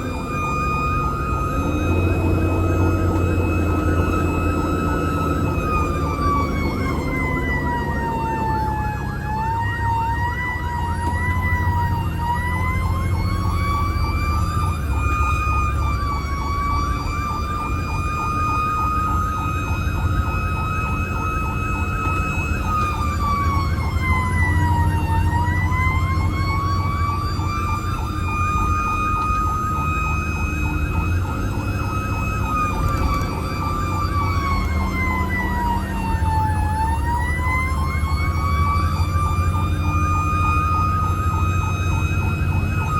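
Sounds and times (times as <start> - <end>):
fire engine siren wailing: 0.0 - 42.9
truck engine rumble: 0.0 - 42.9.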